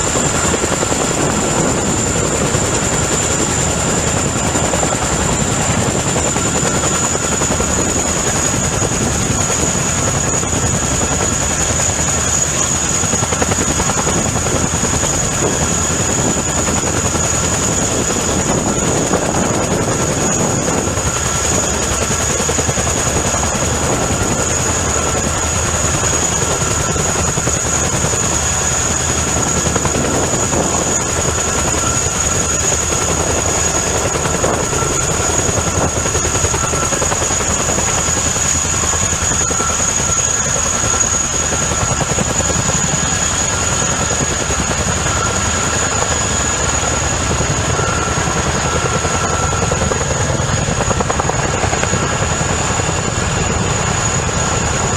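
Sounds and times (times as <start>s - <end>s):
helicopter rotor noise: 0.0s - 54.9s
high turbine whine: 0.0s - 54.9s.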